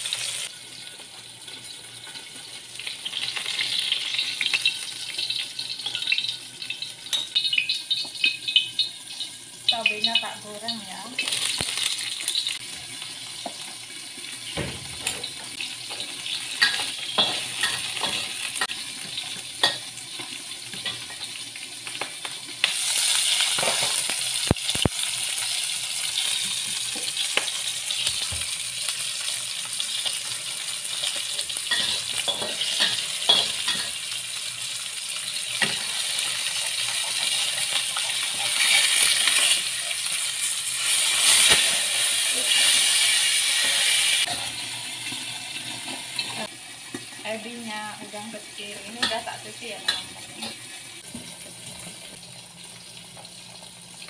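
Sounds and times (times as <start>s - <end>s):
fish frying in oil: 0.0s - 54.0s
oil sizzling in a wok: 0.0s - 54.0s.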